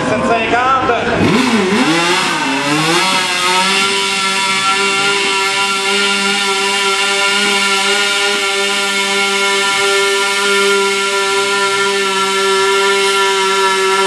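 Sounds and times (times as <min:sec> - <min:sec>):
tractor engine at high revs: 0:00.0 - 0:14.0.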